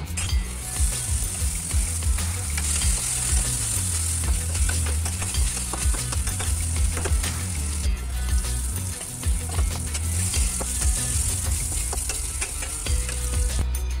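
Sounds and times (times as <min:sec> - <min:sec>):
metal spatula scraping a pan: 0:00.1 - 0:13.6
chicken sizzling in hot oil: 0:00.4 - 0:13.6.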